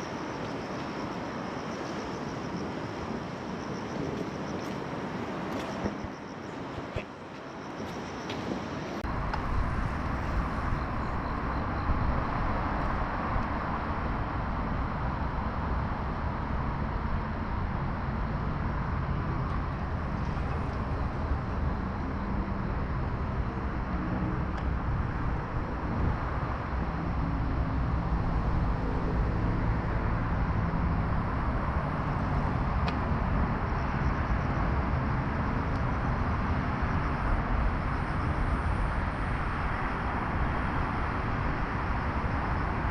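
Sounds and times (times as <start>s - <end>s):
city road traffic rumble: 0.0s - 42.9s.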